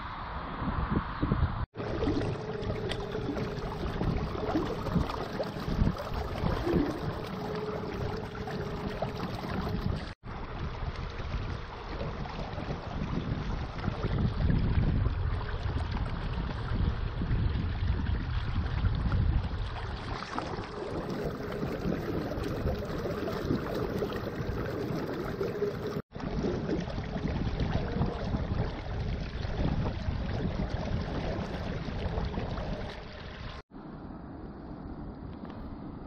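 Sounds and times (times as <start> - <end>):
wind buffeting microphone: 0.0 - 36.0
water rushing and splashing: 1.8 - 33.7.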